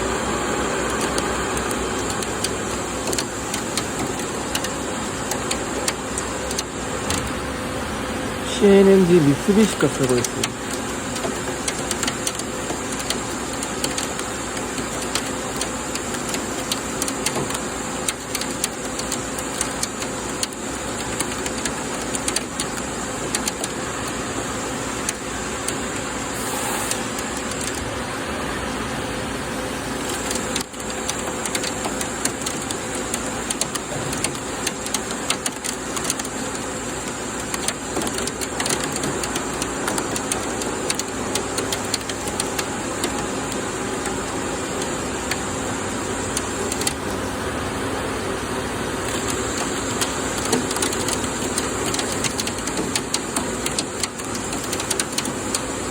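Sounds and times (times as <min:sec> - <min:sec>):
coolant spray and chips rattling: 0:00.0 - 0:07.5, 0:08.6 - 0:28.0, 0:29.5 - 0:47.4, 0:48.9 - 0:55.9.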